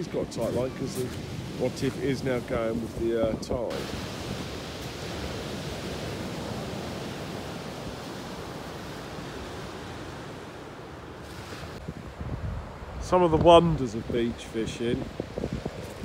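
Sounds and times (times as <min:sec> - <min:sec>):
waves breaking on shingle beach: 0:00.0 - 0:16.0.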